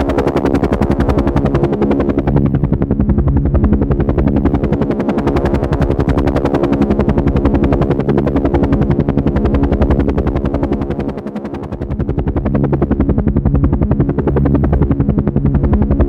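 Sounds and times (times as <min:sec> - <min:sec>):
helicopter engine hum: 0:00.0 - 0:16.0
helicopter rotor chop: 0:00.0 - 0:16.0.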